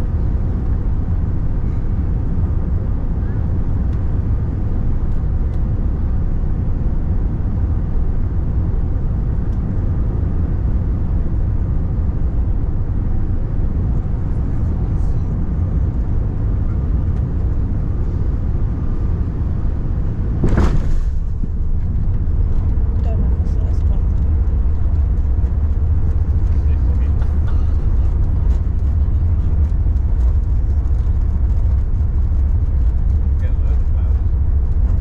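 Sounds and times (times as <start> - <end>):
airplane cabin rumble: 0.0 - 35.0.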